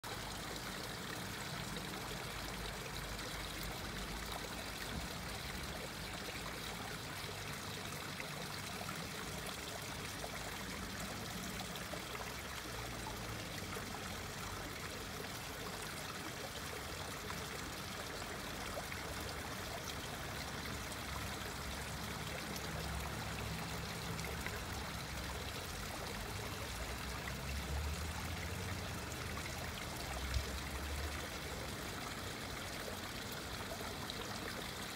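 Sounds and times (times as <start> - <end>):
waterfall splashing into pond: 0.0 - 34.9.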